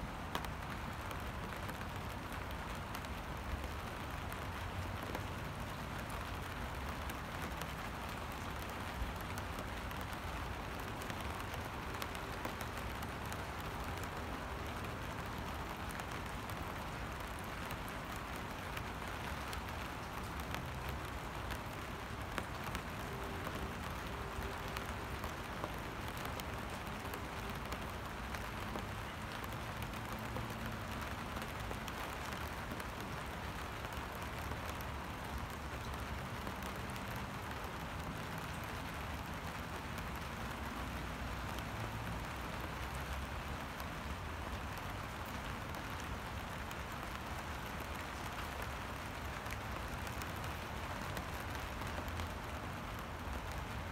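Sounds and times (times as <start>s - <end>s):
rain falling on water: 0.0s - 53.9s.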